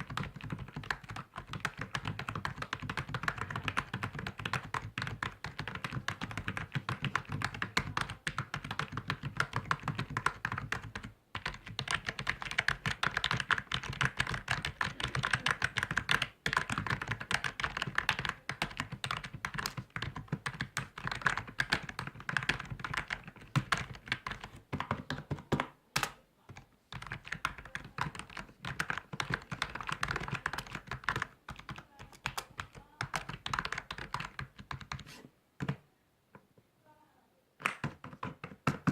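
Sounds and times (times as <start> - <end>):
fast typing on keyboard: 0.0 - 25.7, 26.5 - 35.0, 37.7 - 38.9.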